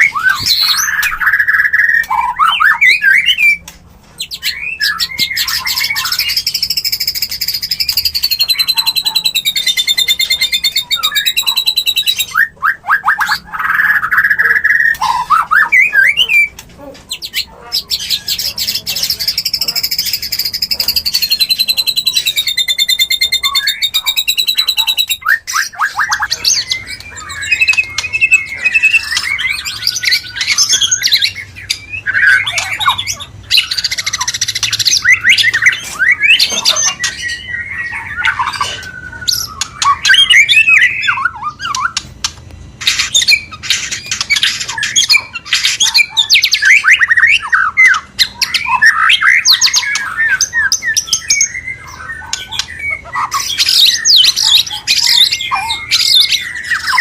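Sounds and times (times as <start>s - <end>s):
birds whistling and squawking: 0.0s - 57.0s.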